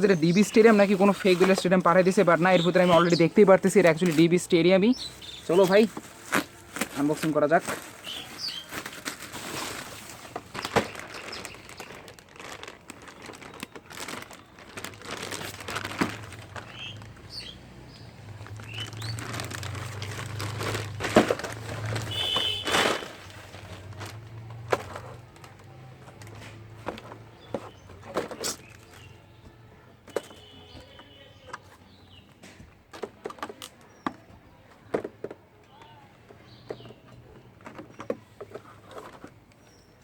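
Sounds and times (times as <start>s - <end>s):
plastic and cardboard crinkling: 0.0s - 40.0s.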